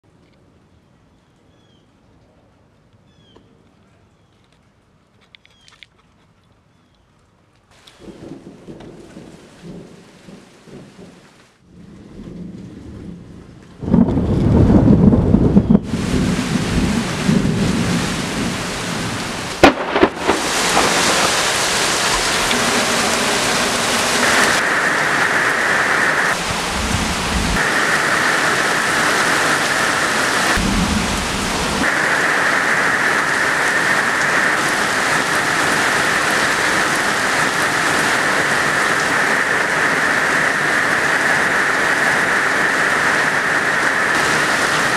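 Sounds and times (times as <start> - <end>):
rain: 6.8 - 44.9
heavy downpour: 7.7 - 44.9
thunder rumble and crack: 8.0 - 44.9.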